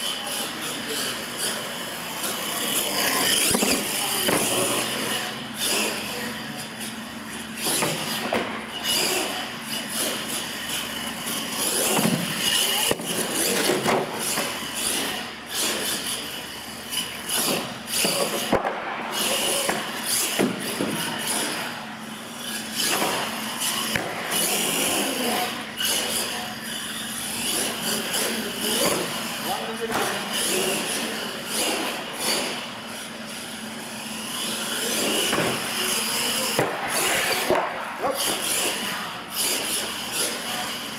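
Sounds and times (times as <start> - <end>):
toy truck motor whining: 0.0 - 18.5, 19.2 - 40.9.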